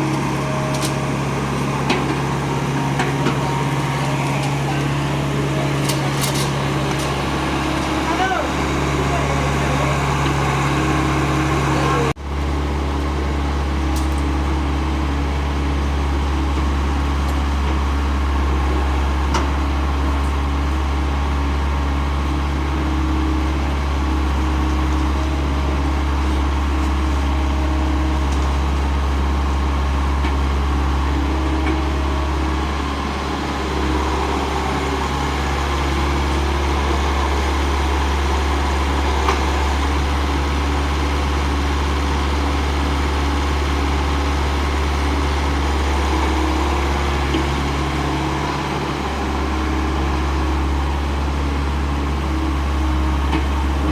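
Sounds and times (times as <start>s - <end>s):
diesel machinery engine drone: 0.0s - 53.9s.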